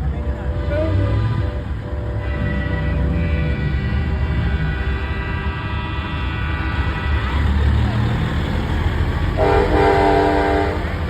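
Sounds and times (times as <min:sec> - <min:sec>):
diesel engines rumbling: 0:00.0 - 0:11.0
truck air horns sounding: 0:00.4 - 0:11.0.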